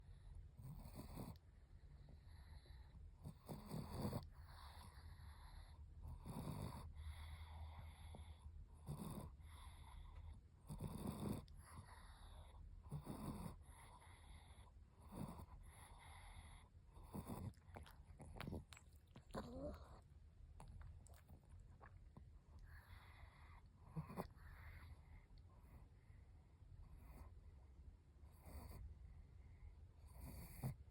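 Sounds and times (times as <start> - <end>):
dog snoring: 0.1 - 1.4, 2.0 - 25.8, 28.3 - 28.9, 30.0 - 30.9.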